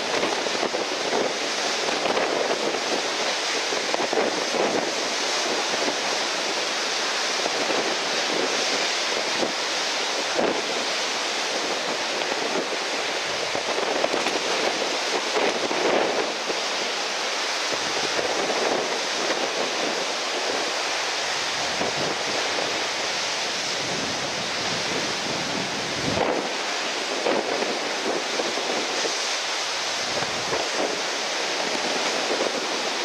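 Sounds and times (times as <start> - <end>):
breaking surf: 0.0 - 33.0
strong wind: 0.0 - 33.0.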